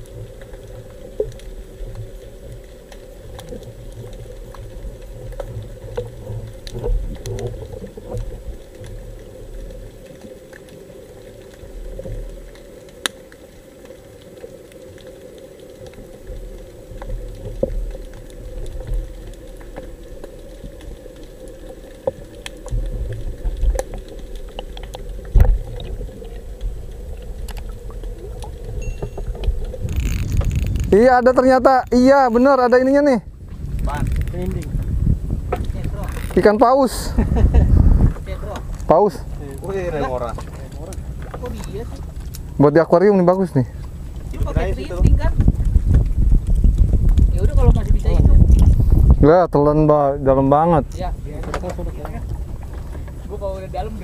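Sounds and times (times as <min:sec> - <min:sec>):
crackles and sharp clicks: 0:00.0 - 0:54.0
underwater rumble of moving water: 0:00.0 - 0:54.0.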